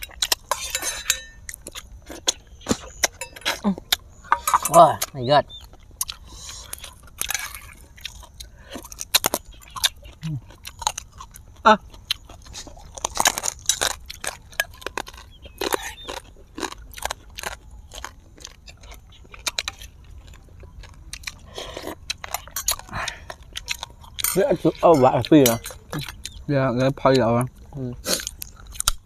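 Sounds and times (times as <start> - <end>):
crunchy food chewing: 0.0 - 29.0.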